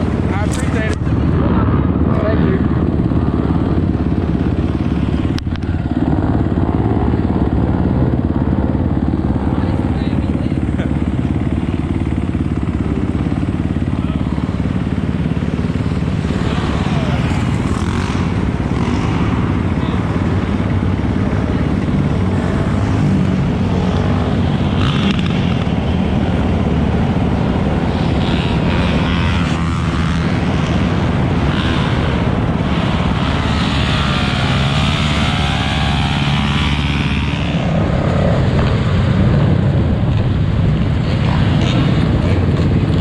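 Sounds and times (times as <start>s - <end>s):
atv and motorbike engines running: 0.0s - 43.0s.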